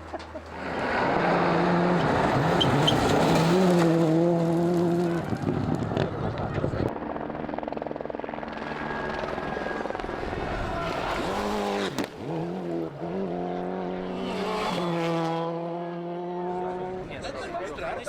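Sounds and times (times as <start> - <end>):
rally car engine at full throttle: 0.0 - 6.9, 8.5 - 17.4.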